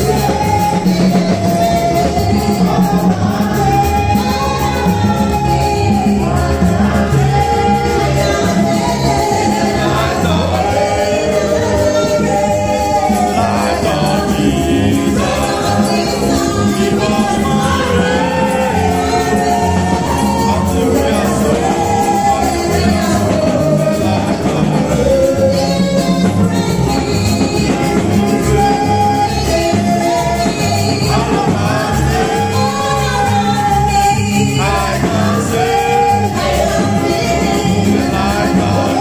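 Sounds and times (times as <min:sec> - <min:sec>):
instrumental backing with beat: 0:00.0 - 0:39.0
woman singing gospel through pa: 0:00.0 - 0:39.0.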